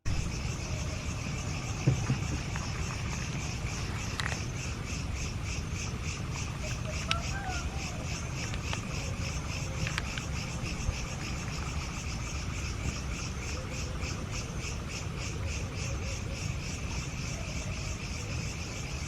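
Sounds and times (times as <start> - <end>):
insects chirping: 0.0 - 19.0
steady low rumble: 0.1 - 19.0.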